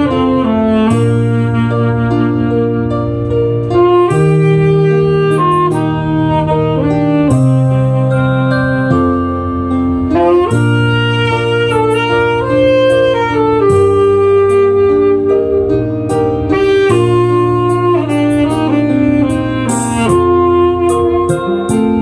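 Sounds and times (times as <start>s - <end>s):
backing accompaniment with bass: 0.0s - 22.0s
saxophone melody: 0.0s - 22.0s.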